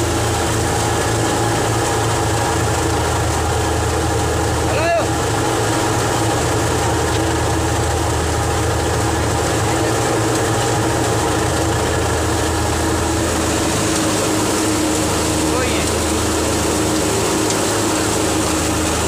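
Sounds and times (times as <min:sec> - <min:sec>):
threshing drum whirring: 0:00.0 - 0:19.0
tractor engine hum: 0:00.0 - 0:19.0.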